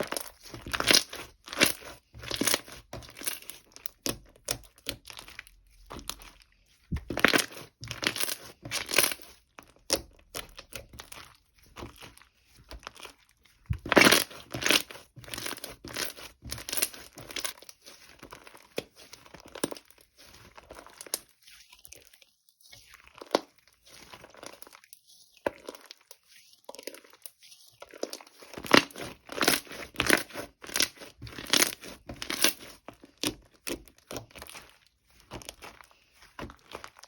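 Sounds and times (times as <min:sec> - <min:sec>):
crinkling and rustling: 0:00.0 - 0:37.0.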